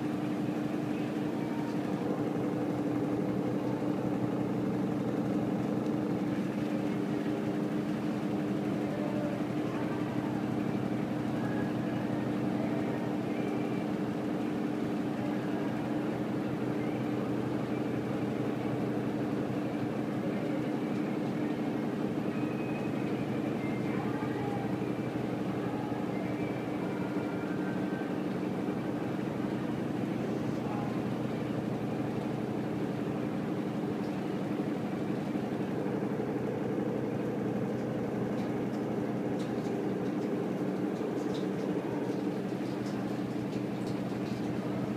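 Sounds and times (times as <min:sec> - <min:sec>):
washing machine drum spinning: 0:00.0 - 0:44.9.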